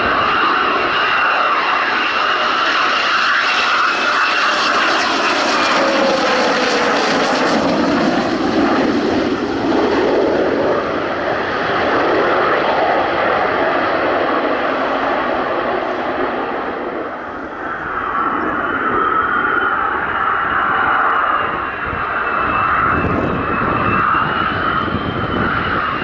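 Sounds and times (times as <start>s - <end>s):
military aircraft engine: 0.0s - 26.0s.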